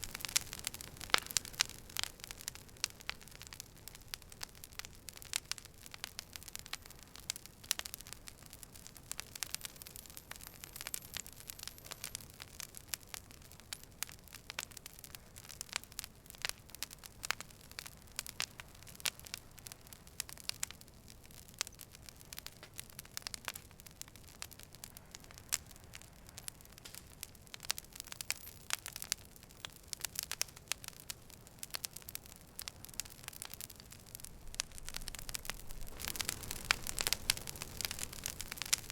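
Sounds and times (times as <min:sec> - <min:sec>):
campfire crackling: 0:00.0 - 0:38.9
low rumble of burning wood: 0:00.0 - 0:38.9.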